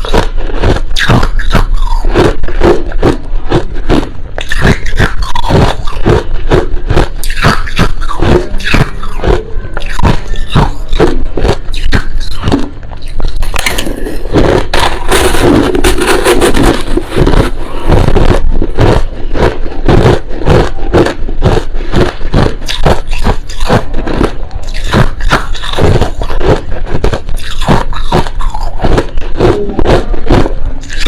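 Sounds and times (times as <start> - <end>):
crushed ice being chewed: 0.0 - 31.0.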